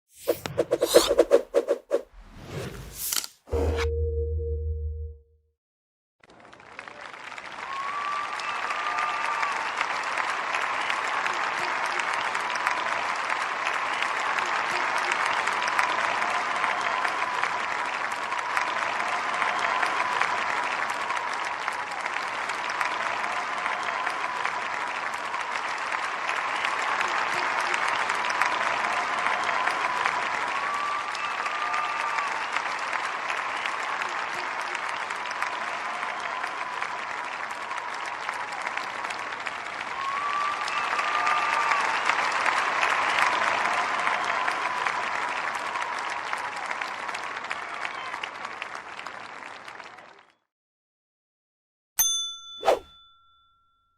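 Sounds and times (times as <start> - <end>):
large audience applauding: 6.2 - 50.4.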